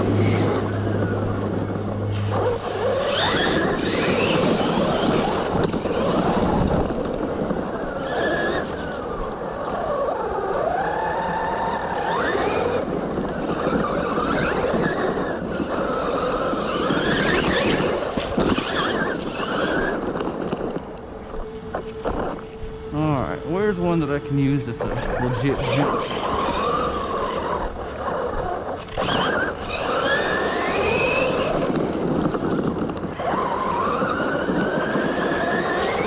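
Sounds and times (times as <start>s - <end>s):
tyres skidding on gravel: 0.0s - 9.1s, 11.3s - 36.0s
electric toy car motor whining: 0.0s - 36.0s.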